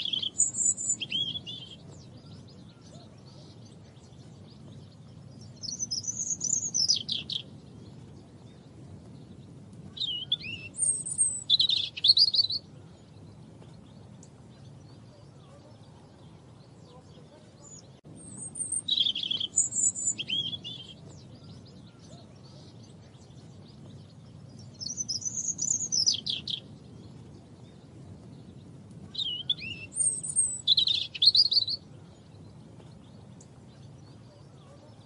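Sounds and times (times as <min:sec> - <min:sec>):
faint low rumble: 0:00.0 - 0:35.0
robin singing: 0:00.0 - 0:35.0.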